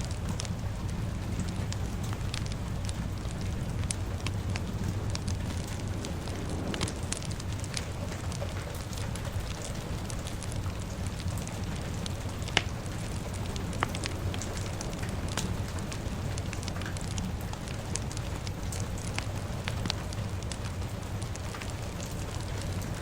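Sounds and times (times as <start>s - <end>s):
fire crackling and popping: 0.0s - 23.0s
rain rumbling: 0.0s - 23.0s.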